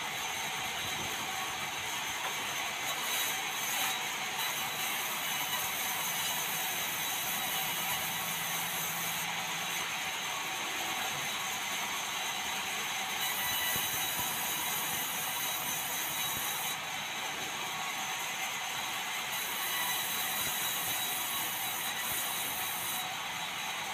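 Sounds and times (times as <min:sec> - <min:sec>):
sawmill saw running: 0:00.0 - 0:23.9.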